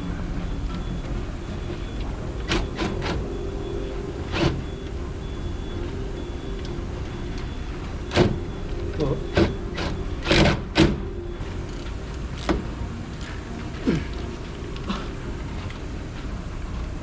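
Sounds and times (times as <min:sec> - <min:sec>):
low rumble with hum: 0:00.0 - 0:17.0.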